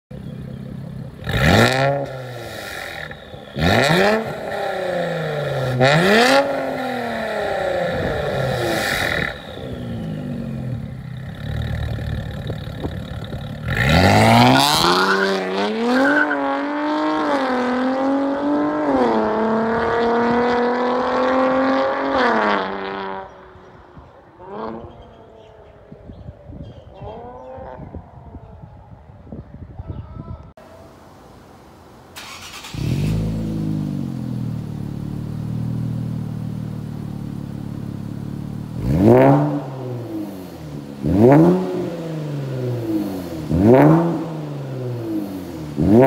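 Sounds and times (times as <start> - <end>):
car engine idling and revving: 0.1 - 25.0, 32.2 - 46.0.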